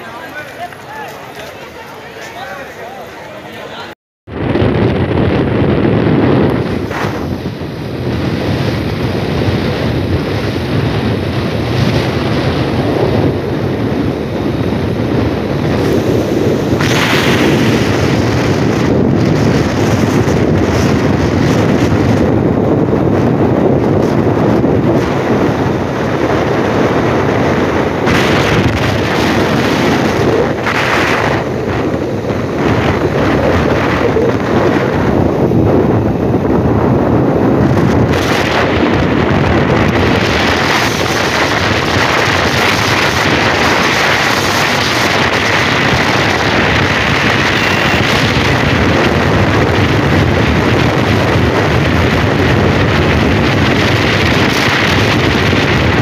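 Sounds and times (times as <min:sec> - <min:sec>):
wind on microphone: 0:04.3 - 0:56.0.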